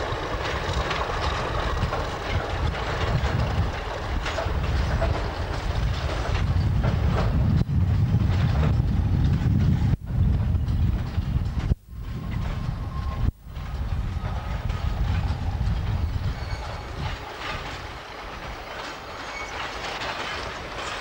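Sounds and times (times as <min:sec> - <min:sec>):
train rolling past rumbling: 0:00.0 - 0:21.0
wheels clicking over rail joints: 0:00.0 - 0:21.0.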